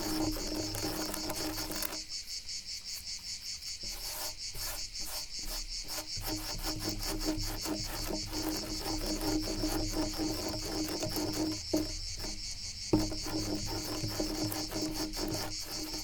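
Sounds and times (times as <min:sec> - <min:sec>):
crickets chirping: 0:00.0 - 0:16.0
scratching on wood: 0:00.0 - 0:16.0.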